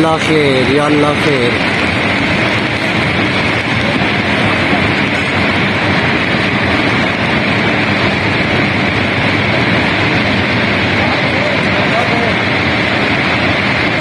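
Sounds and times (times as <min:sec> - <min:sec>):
flash flood water rushing: 0:00.0 - 0:14.0.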